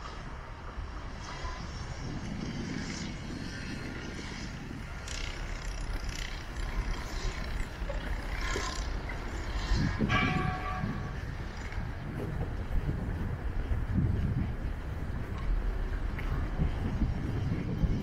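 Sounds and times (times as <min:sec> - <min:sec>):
road traffic rumbling: 0:00.0 - 0:18.0.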